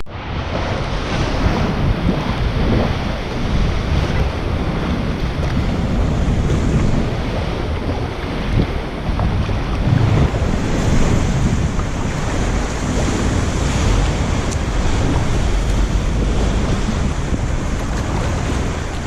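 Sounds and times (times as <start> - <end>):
wind buffeting microphone: 0.1 - 19.0
waves sloshing: 0.2 - 19.0.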